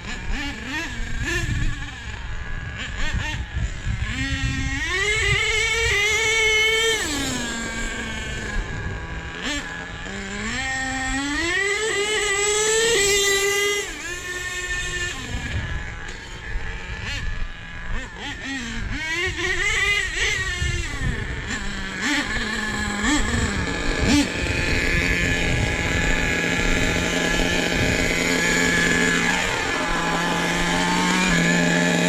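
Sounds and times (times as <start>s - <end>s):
rc truck engine revving: 0.0s - 32.0s.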